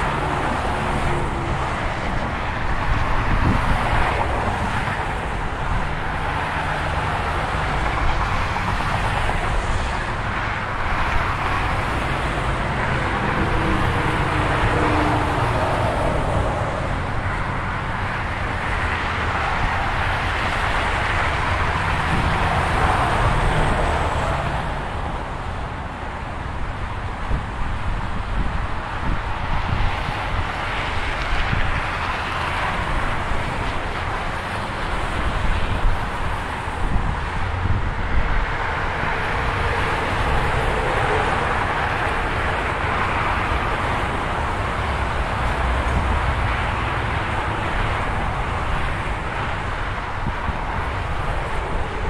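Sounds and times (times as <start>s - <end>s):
freeway traffic roar: 0.0s - 52.0s.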